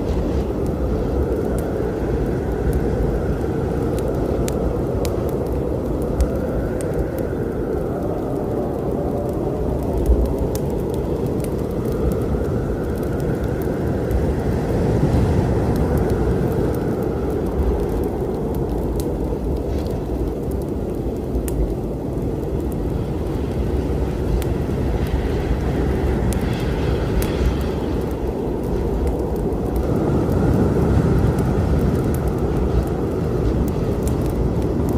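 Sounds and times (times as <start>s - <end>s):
storm rumble: 0.0s - 34.9s
wood fire crackling: 0.0s - 34.9s.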